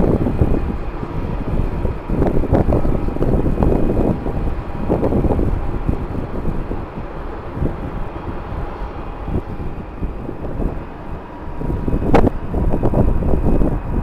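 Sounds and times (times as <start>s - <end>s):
distant jet engines droning: 0.0s - 14.0s
wind buffeting microphone: 0.0s - 14.0s.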